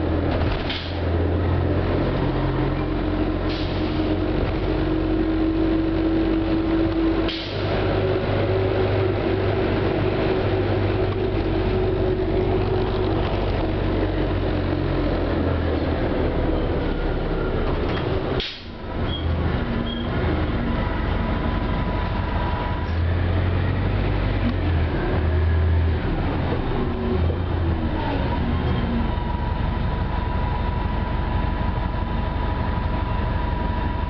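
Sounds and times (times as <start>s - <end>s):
bus engine droning: 0.0s - 34.0s
road noise: 0.0s - 34.0s.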